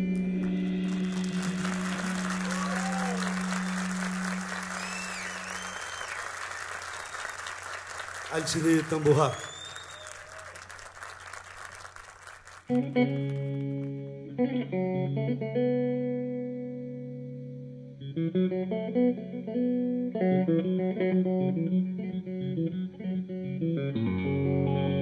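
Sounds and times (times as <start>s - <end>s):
electric guitar chords: 0.0s - 7.8s, 12.7s - 25.0s.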